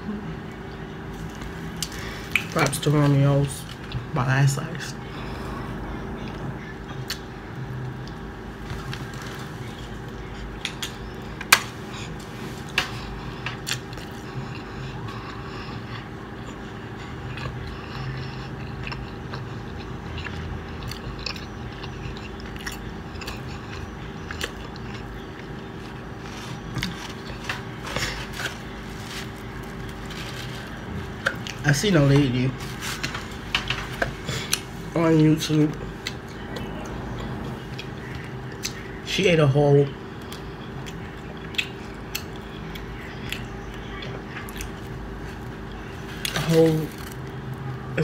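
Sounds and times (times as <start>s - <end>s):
steady low hum: 0.0s - 48.0s
biting and chewing pizza: 5.0s - 39.0s, 39.8s - 48.0s.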